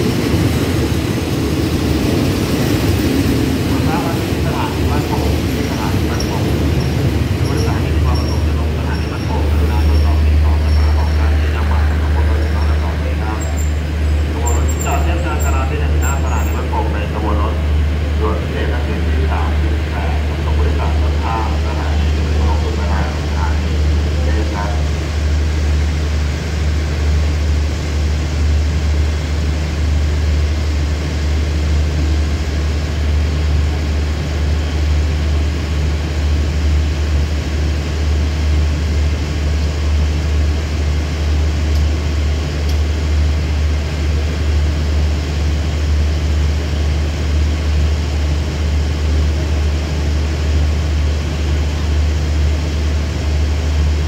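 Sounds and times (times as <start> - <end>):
diesel locomotive idling: 0.0 - 54.0.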